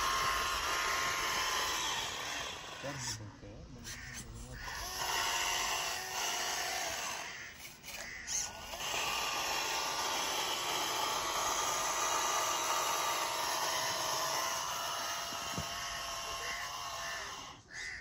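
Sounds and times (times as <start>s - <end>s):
small model tractor motor: 0.0s - 3.2s, 3.8s - 18.0s.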